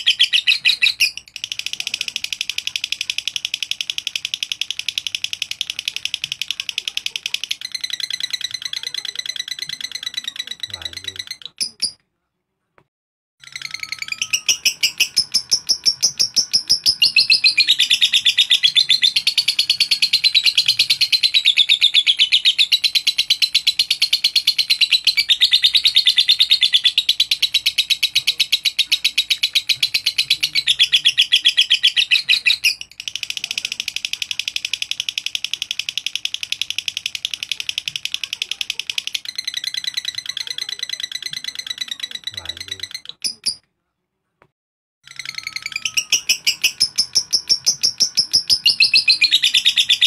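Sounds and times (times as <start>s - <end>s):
lovebird rapid chatter: 0.0s - 12.0s, 13.4s - 43.6s, 45.1s - 50.0s.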